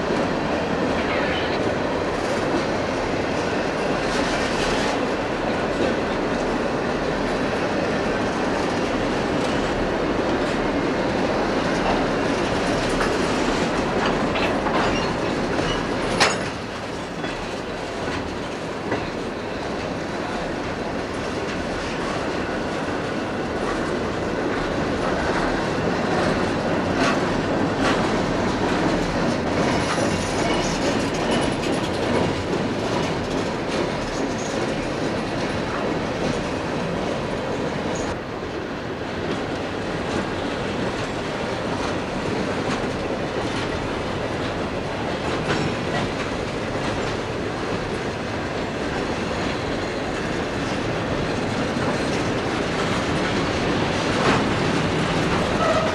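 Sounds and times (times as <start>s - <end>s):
clickety-clack over rail joints: 0.0s - 55.9s
train wheels rumbling on rails: 0.0s - 55.9s.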